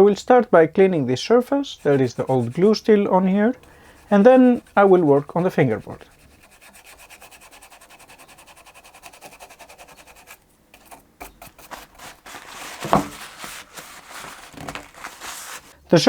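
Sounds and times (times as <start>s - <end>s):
scraping glue off wood: 1.7s - 15.8s.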